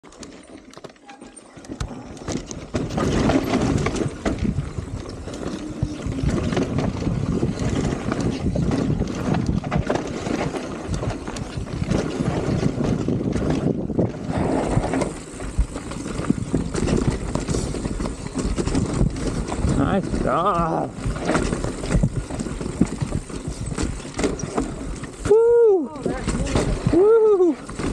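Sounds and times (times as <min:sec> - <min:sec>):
bike rattling and knocking: 0:00.0 - 0:27.9
tyres crunching over rock: 0:00.1 - 0:27.9
wind rushing over microphone: 0:02.8 - 0:27.9.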